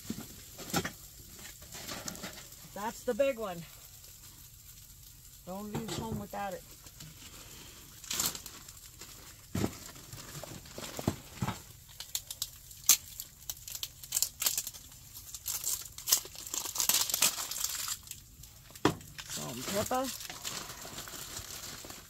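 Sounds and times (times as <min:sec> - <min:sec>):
crinkling and crackling: 0:00.0 - 0:22.0.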